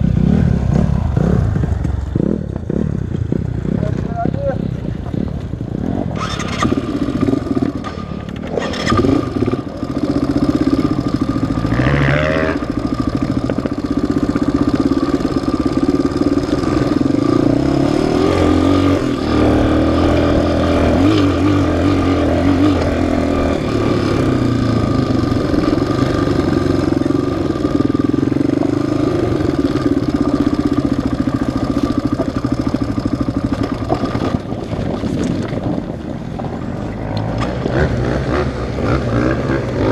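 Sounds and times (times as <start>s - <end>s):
off-road engine revving: 0.0s - 4.6s, 5.6s - 39.9s.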